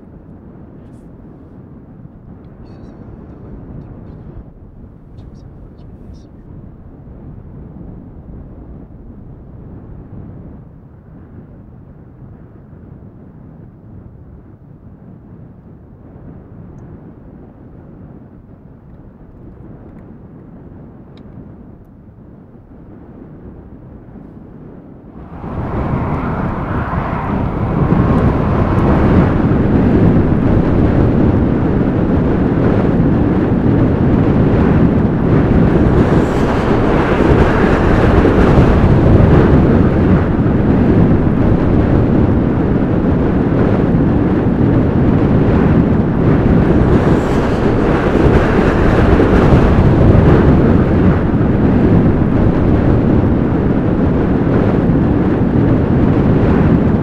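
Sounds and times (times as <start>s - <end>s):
blizzard wind gusting: 0.0s - 57.0s
wind buffeting microphone: 0.0s - 57.0s.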